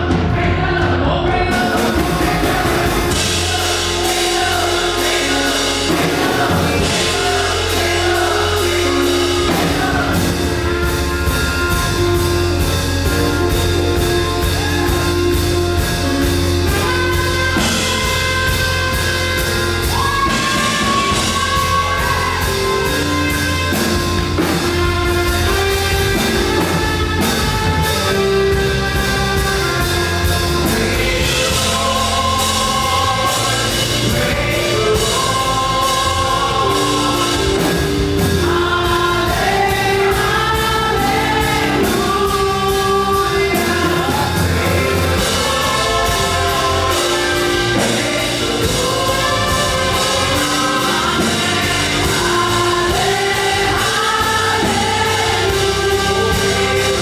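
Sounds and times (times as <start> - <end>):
band with driving drum beat: 0.0 - 57.0
group singing gospel song: 0.0 - 57.0.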